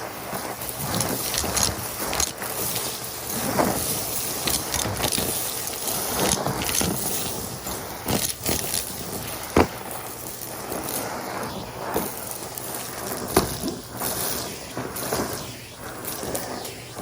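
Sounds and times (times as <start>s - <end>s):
debris clicking up hose: 0.0s - 17.0s
vacuum cleaner running: 0.0s - 17.0s.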